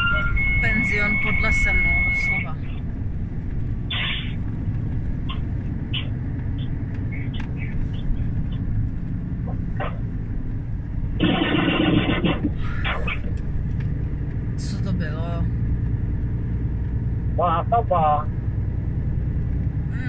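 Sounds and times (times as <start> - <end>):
road noise: 0.0 - 20.0
truck diesel engine drone: 0.0 - 20.0.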